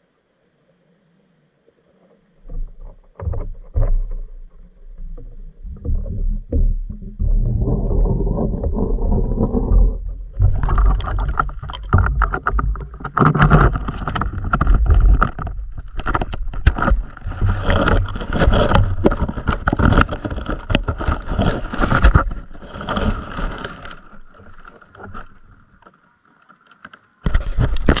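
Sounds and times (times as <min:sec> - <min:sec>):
muffled underwater rumble: 0:00.0 - 0:26.2.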